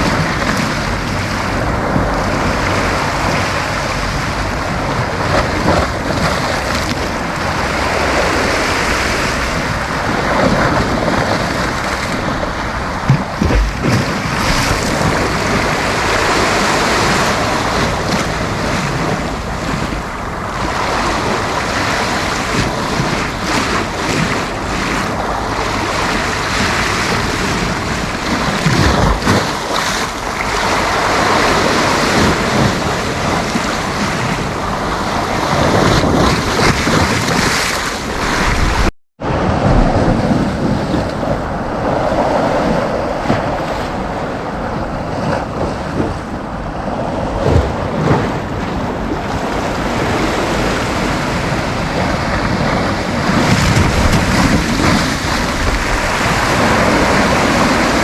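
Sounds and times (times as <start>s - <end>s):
sea waves breaking on beach: 0.0s - 58.0s
wind buffeting microphone: 0.0s - 58.0s.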